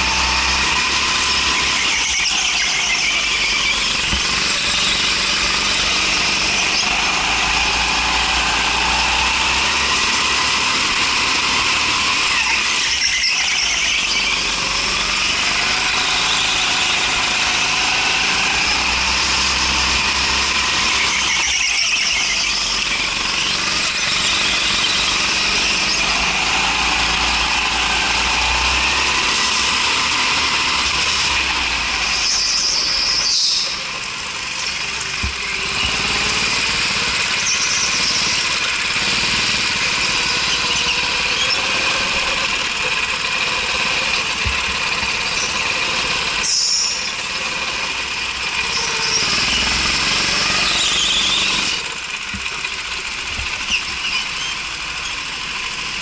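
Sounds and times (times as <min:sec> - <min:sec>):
go-kart engine running: 0:00.0 - 0:56.0
tyre squeal on concrete: 0:00.0 - 0:56.0.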